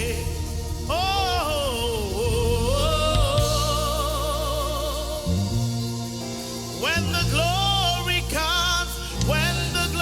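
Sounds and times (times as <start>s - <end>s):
solo voice singing: 0.0s - 6.1s, 6.8s - 10.0s
sustained low accompaniment: 0.0s - 10.0s.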